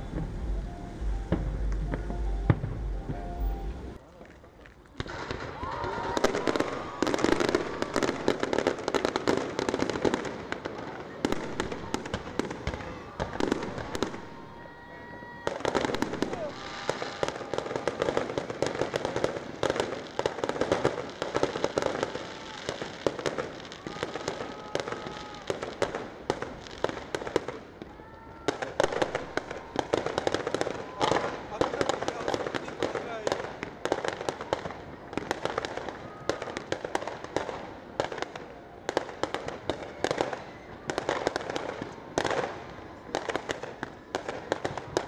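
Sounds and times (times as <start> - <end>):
fireworks popping and crackling: 0.0 - 45.0.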